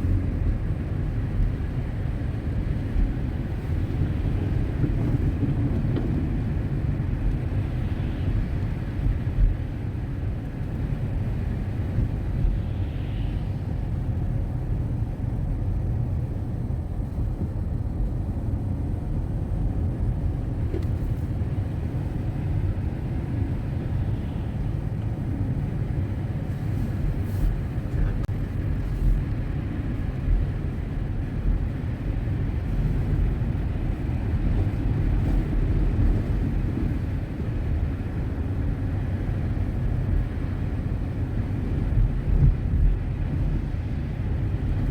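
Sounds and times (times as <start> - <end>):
car driving rumble: 0.0 - 44.9.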